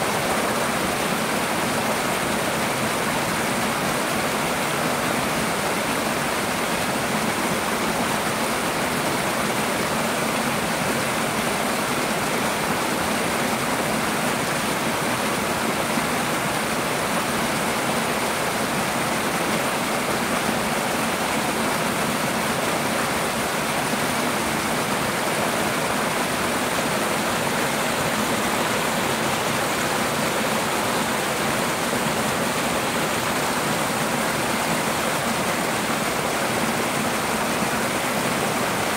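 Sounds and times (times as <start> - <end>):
waterfalls splashing over rock: 0.0 - 38.9.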